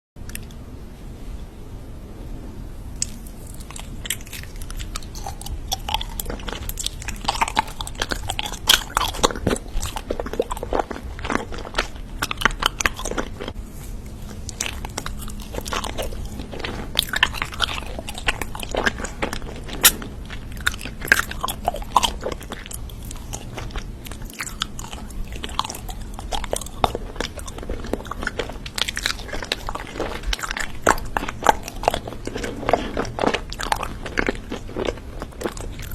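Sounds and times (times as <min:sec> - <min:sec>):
crunchy food chewing: 0:00.2 - 0:00.6, 0:03.0 - 0:35.9.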